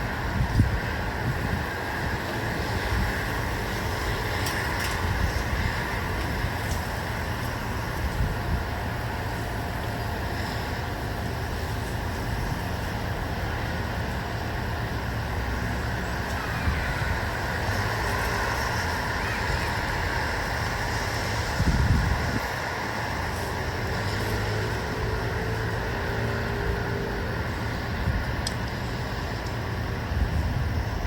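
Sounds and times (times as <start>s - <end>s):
distant road traffic hum: 0.0s - 31.0s.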